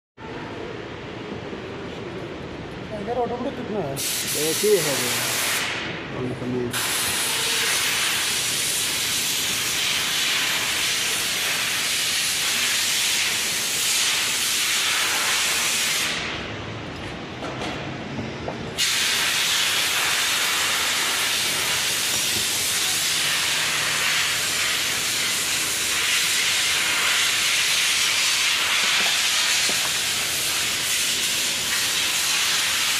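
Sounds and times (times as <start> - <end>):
loud steady hiss: 3.9 - 16.4, 18.8 - 32.9.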